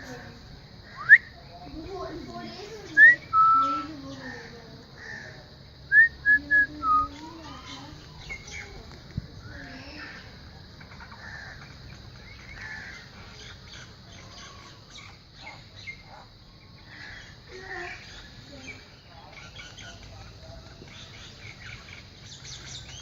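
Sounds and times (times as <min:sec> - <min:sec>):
faint chirps: 0:00.0 - 0:23.0
steady high hiss: 0:00.0 - 0:23.0.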